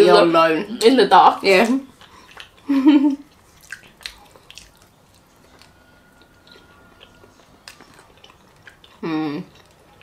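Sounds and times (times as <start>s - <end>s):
crust crackling: 1.3s - 10.0s
chewing and biting pizza: 1.9s - 10.0s.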